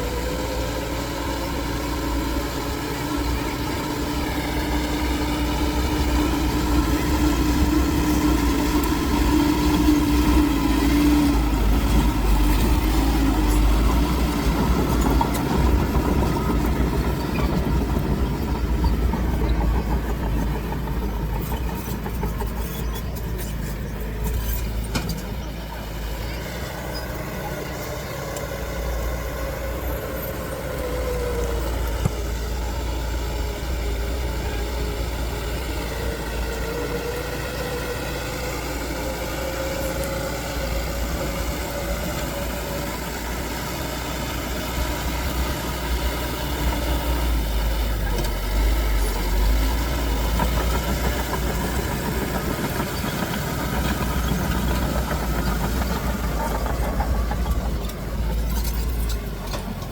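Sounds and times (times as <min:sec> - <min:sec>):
heavy machinery diesel engine rumbling: 0:00.0 - 0:59.9.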